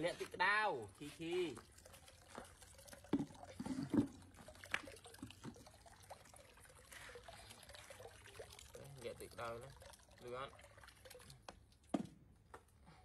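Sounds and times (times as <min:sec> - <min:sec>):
water pouring into a tub: 0:00.0 - 0:11.9.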